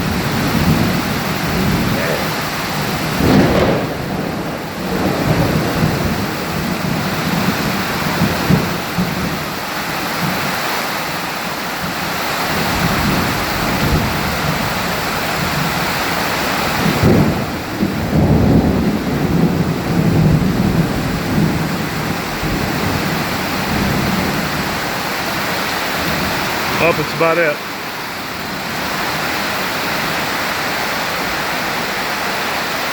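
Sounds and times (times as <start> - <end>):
low rolling thunder: 0.0 - 9.5, 12.5 - 30.3
rain falling steadily: 0.0 - 32.9.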